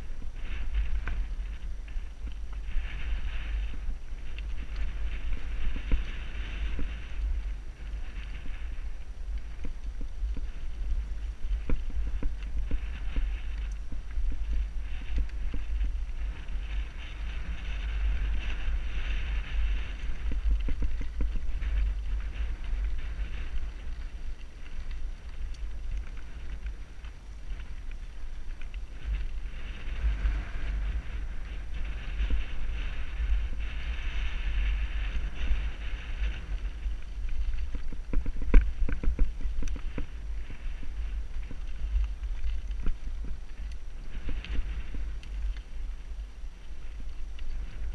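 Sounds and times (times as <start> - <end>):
bike tyres on gravel: 0.0 - 47.9
wind buffeting microphone: 0.0 - 47.9.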